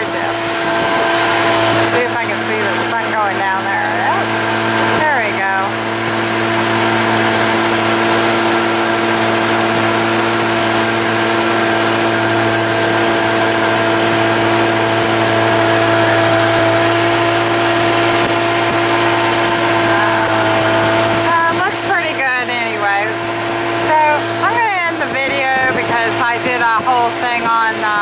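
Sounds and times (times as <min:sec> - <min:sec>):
boat motor running: 0:00.0 - 0:28.0
wind and water rushing: 0:00.0 - 0:28.0.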